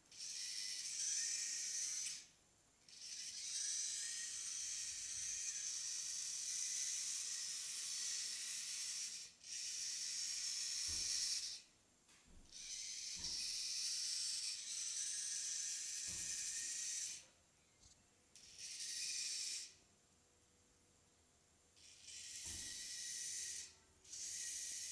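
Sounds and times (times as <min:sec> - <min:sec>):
robot servo motors whirring: 0:00.1 - 0:02.3, 0:02.9 - 0:11.7, 0:12.5 - 0:17.2, 0:18.4 - 0:19.8, 0:21.8 - 0:24.9.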